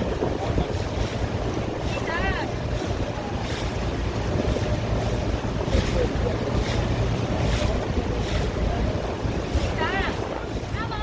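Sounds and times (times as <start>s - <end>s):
low engine rumble: 0.0s - 11.0s
water splashing along hull: 0.0s - 11.0s
wind buffeting microphone: 0.0s - 11.0s.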